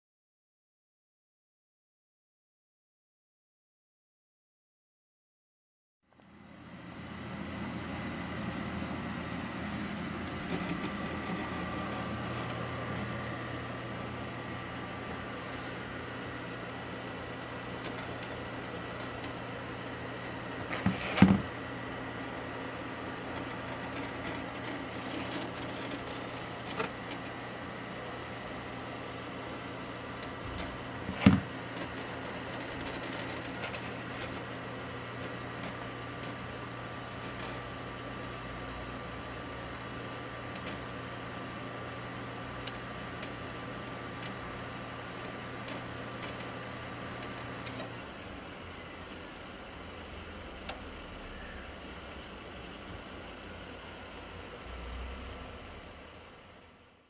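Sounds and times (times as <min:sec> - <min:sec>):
faint high whine: 0:06.1 - 0:39.0, 0:43.5 - 0:57.0
computer fans humming: 0:06.1 - 0:57.0.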